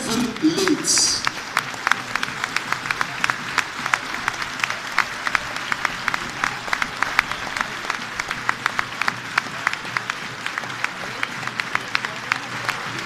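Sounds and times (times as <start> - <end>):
stadium crowd applauding: 0.0 - 13.0.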